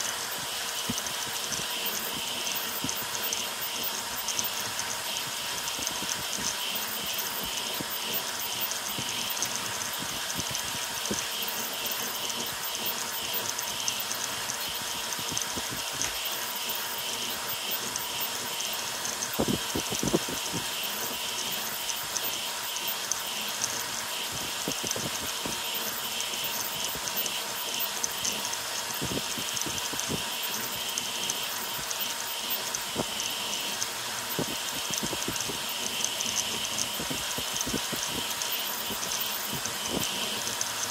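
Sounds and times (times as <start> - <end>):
stepper motors buzzing and chattering: 0.0 - 40.9.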